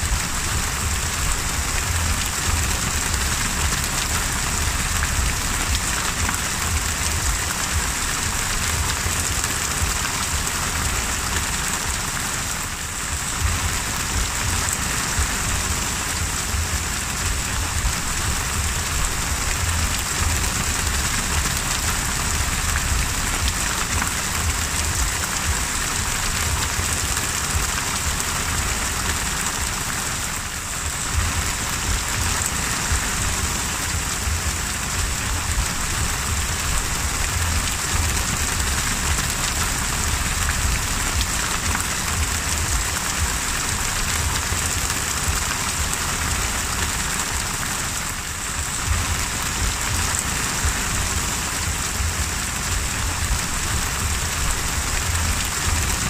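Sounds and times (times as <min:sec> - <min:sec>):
low rumble: 0:00.0 - 0:12.3, 0:12.9 - 0:29.8, 0:30.6 - 0:47.0
heavy rain on sea: 0:00.0 - 0:56.0.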